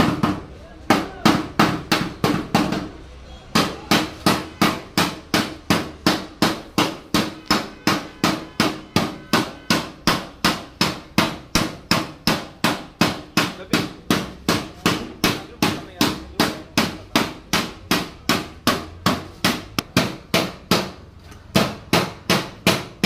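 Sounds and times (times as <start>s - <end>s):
hammer beating on metal: 0.0s - 23.0s.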